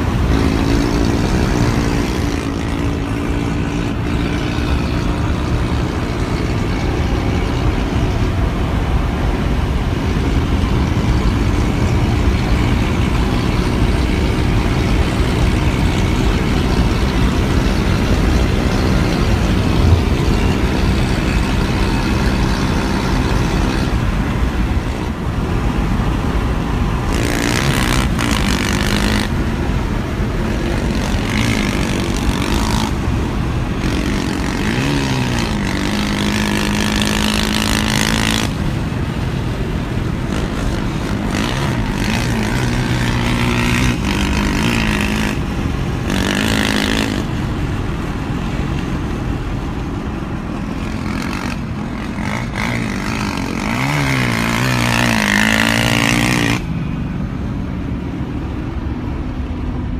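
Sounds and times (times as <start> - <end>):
dirt bike engine: 0.0 - 59.9
road and wind noise: 0.0 - 59.9
truck engine: 0.0 - 59.9.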